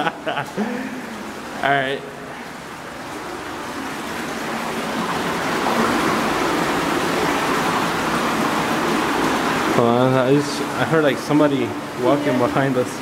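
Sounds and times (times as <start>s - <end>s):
water rushing in tunnel: 0.0s - 13.0s.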